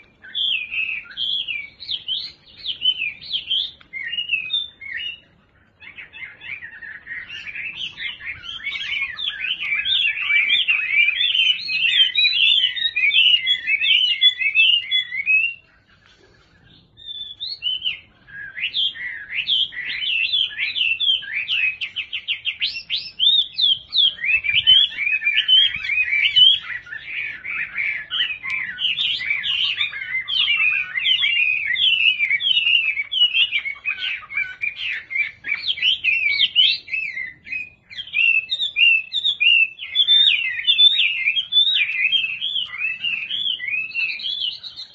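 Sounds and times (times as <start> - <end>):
bird singing whistled phrases: 0.0 - 44.9.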